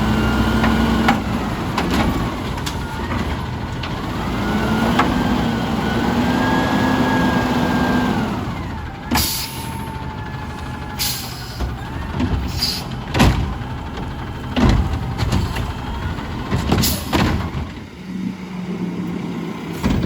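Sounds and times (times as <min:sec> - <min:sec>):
garbage truck engine whining: 0:00.0 - 0:20.0.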